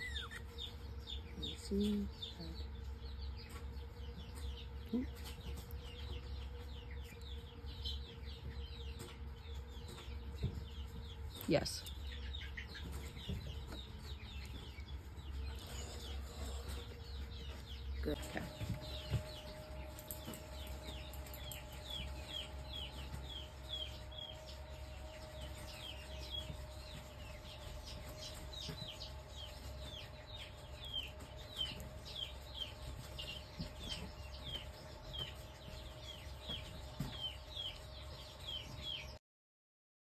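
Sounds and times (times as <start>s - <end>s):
steady low hum: 0.0s - 39.2s.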